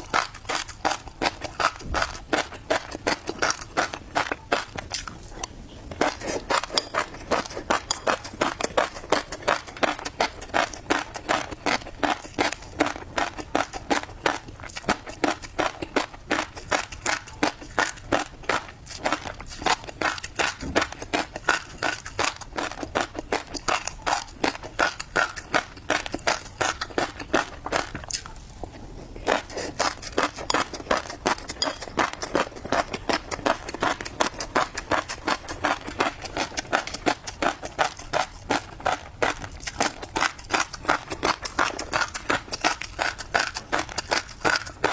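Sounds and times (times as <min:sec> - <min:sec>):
fish roe crunching while chewed: 0:00.0 - 0:44.9.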